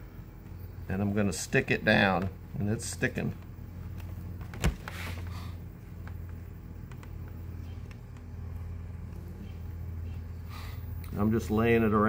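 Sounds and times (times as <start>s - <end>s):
workshop room hum: 0.0s - 12.0s
quiet handling noise: 1.9s - 11.8s.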